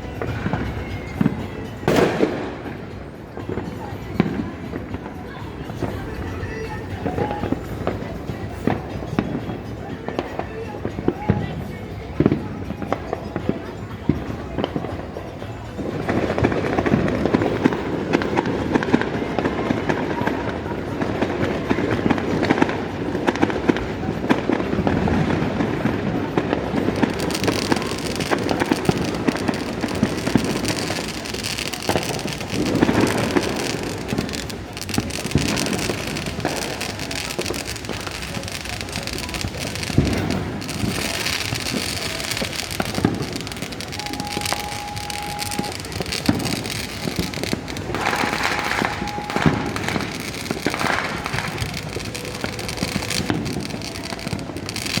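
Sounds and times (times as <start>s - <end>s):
fireworks crackling and popping: 0.0s - 55.0s.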